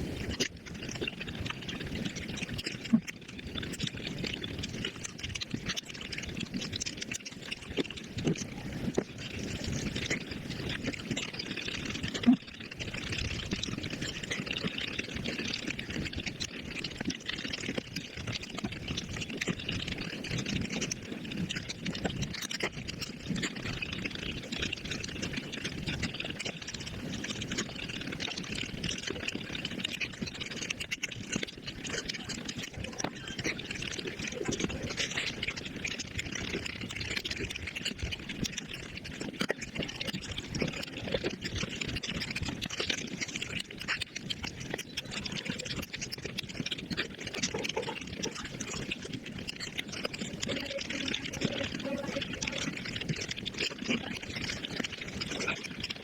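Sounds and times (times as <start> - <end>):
sped-up wet chewing: 0.3 - 56.0.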